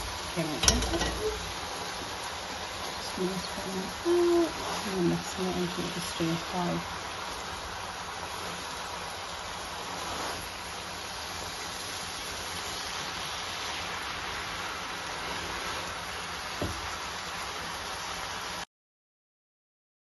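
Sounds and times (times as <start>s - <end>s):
food sizzling in a pan: 0.0s - 18.7s.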